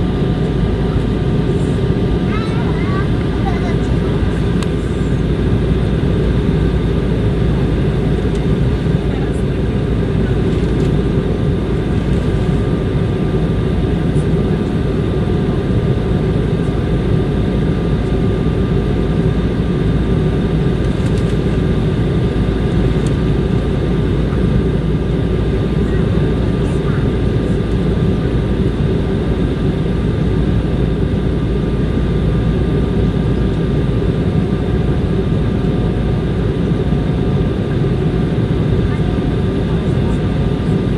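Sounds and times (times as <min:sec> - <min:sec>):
aircraft engines droning: 0:00.0 - 0:40.9
engine fans whining: 0:00.0 - 0:40.9.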